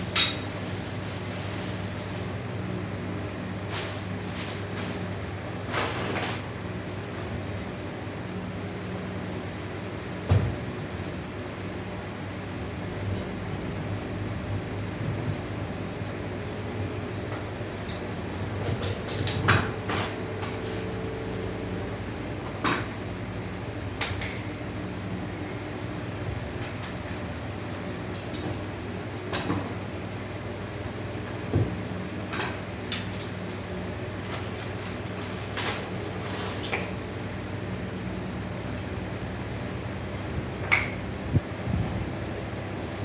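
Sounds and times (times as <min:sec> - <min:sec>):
fan-like hum: 0:00.0 - 0:43.0.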